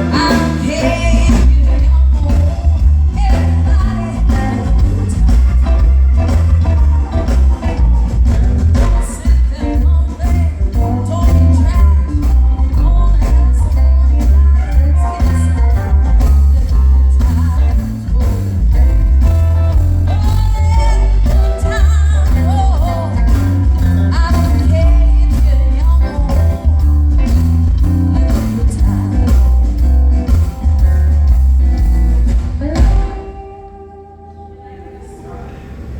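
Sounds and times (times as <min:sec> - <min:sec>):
woman singing: 0:00.0 - 0:07.8, 0:08.7 - 0:27.5, 0:28.1 - 0:30.9, 0:32.6 - 0:35.3
live blues band playing: 0:00.0 - 0:34.5.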